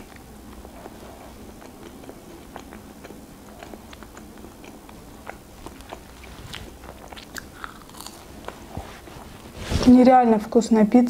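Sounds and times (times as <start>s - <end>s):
person chewing food: 0.0s - 9.3s.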